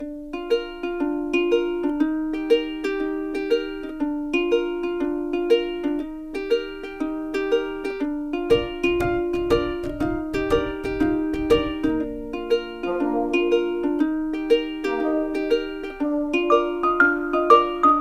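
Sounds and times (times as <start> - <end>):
plucked ukulele tune: 0.0 - 18.0.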